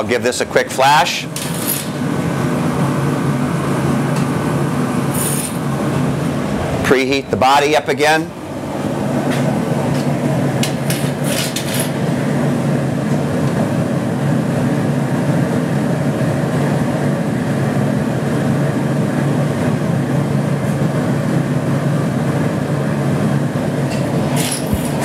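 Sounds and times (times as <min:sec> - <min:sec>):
gas furnace burner roaring: 0:00.0 - 0:25.0.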